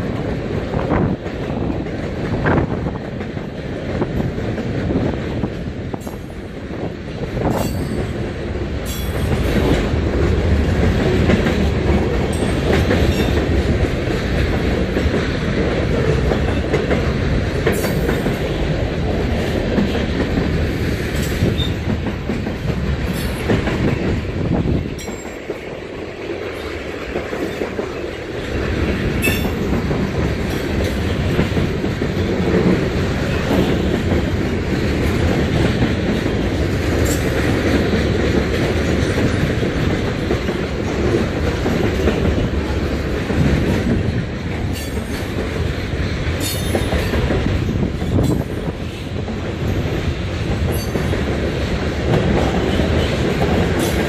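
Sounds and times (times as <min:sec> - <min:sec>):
freight train wheels rumbling: 0:00.0 - 0:54.0
wheels clacking over rail joints: 0:00.0 - 0:54.0.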